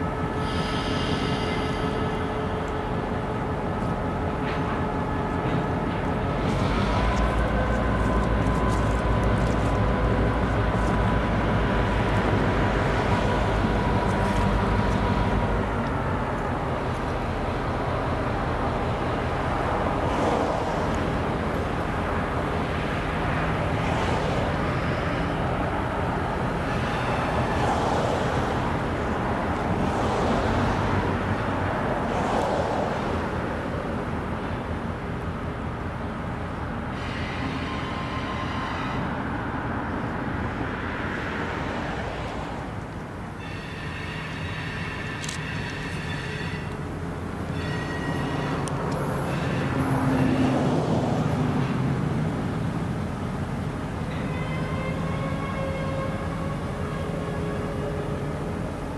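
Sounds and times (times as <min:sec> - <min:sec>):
diesel locomotive engine under power: 0:00.0 - 0:58.9.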